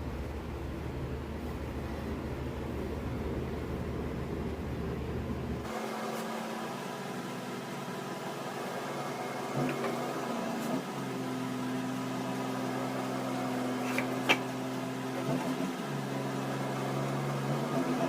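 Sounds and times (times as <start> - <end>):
motor-like hum: 0.0 - 18.0.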